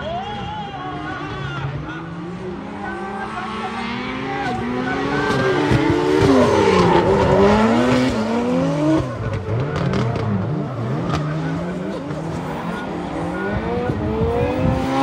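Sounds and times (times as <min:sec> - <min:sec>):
car engines revving: 0:00.3 - 0:15.0.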